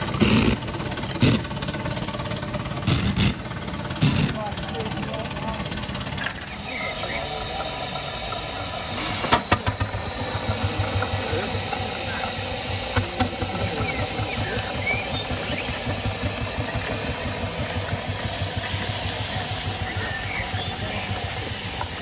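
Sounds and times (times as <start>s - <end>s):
steam engine chuffing: 0.0s - 22.0s
steam hissing: 0.0s - 22.0s.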